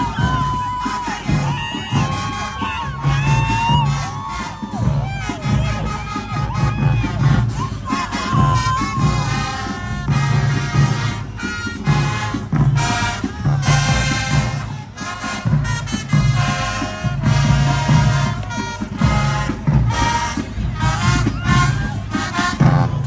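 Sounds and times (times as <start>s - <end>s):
marching band playing: 0.0s - 23.0s
pounding drum beat: 0.0s - 23.0s.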